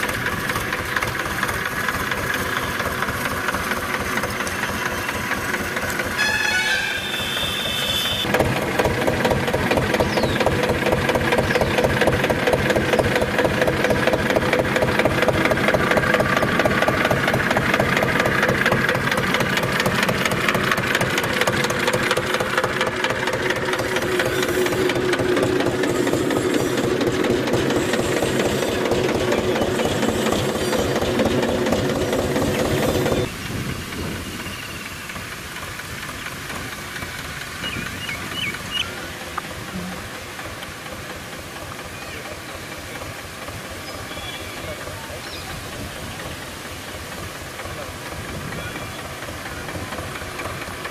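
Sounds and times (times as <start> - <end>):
tractor diesel engine chugging: 0.0 - 50.9.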